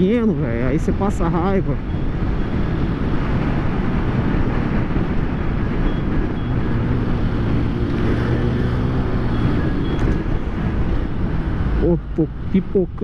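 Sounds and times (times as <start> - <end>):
road noise: 0.0 - 13.0
wind: 0.0 - 13.0.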